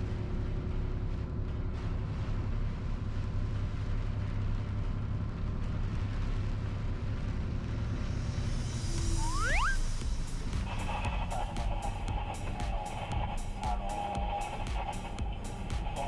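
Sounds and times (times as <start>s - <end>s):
road noise hiss: 0.0s - 16.0s
truck diesel engine rumbling: 0.0s - 16.0s.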